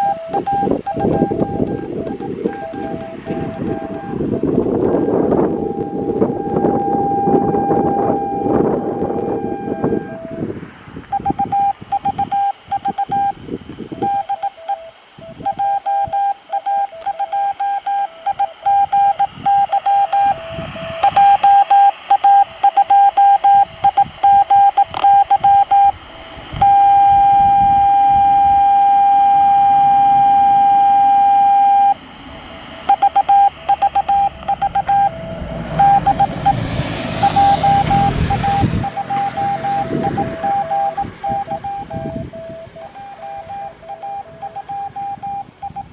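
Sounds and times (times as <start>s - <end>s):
morse code beacon tone: 0.0s - 45.9s.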